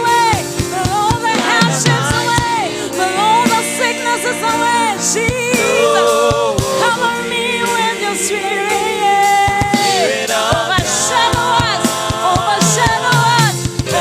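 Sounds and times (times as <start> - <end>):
gospel band playing: 0.0 - 14.0
choir singing held notes: 0.2 - 14.0.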